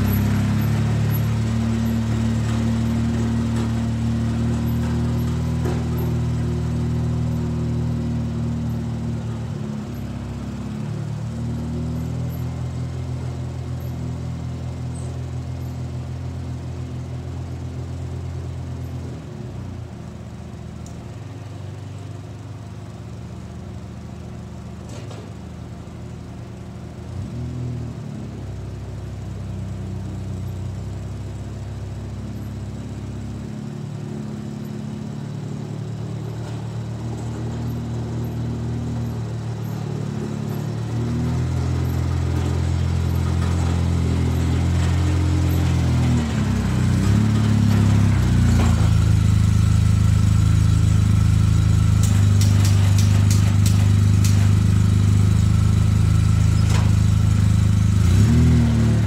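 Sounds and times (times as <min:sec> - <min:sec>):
atv engine running: 0:00.0 - 0:19.9, 0:27.0 - 0:59.0.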